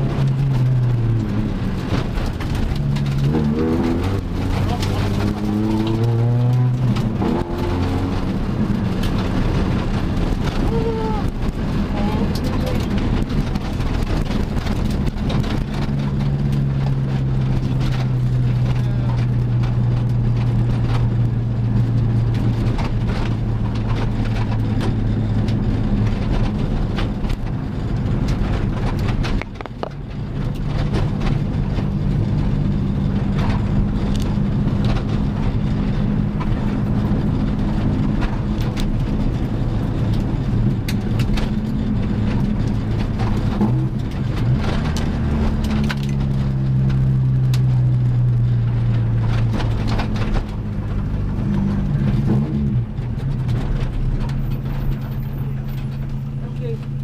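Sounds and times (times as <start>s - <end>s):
car engine running: 0.0s - 57.0s
tyre and road noise: 0.0s - 57.0s
small clicks and rattles: 0.1s - 57.0s.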